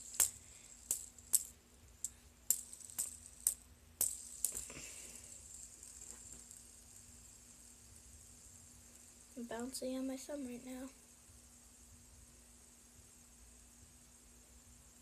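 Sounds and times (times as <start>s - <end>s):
fidget spinner clicking: 0.0s - 12.2s.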